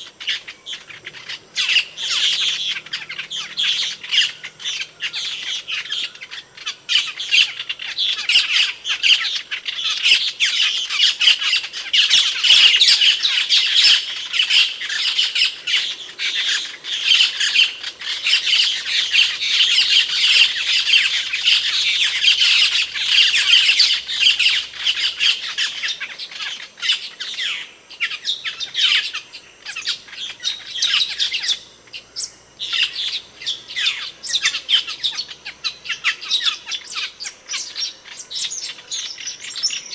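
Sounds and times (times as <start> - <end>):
starling calls: 0.0 - 39.9.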